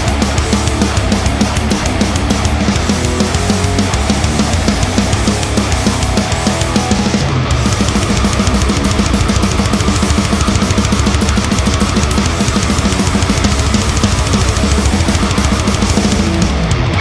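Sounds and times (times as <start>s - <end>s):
distorted electric guitar: 0.0s - 17.0s
drum kit fast beats: 0.0s - 17.0s
thrash metal instrumental: 0.0s - 17.0s.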